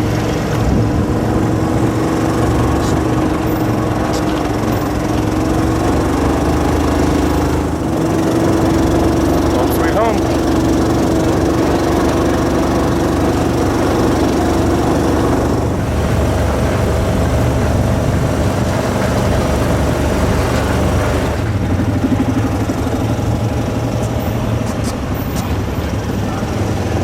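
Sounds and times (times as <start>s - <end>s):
vehicle engines idling: 0.0s - 27.0s.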